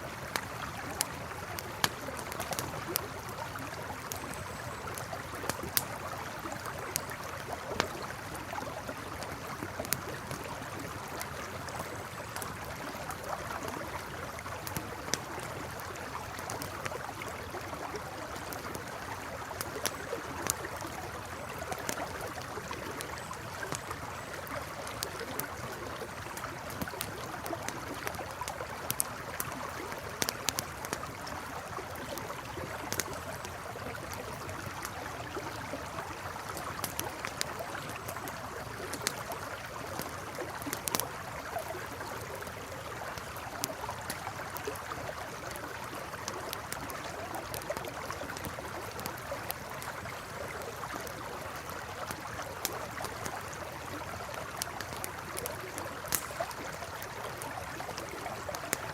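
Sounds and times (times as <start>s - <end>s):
campfire crackling and popping: 0.0s - 58.9s
river flowing: 0.0s - 58.9s.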